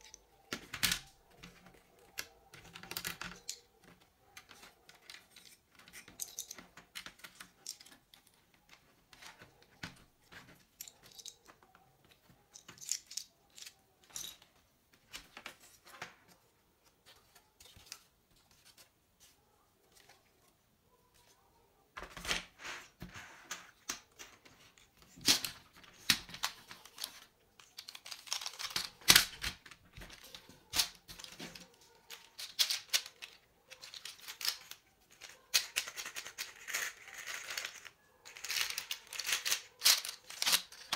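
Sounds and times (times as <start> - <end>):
plastic parts clicking and scraping: 0.0 - 40.9.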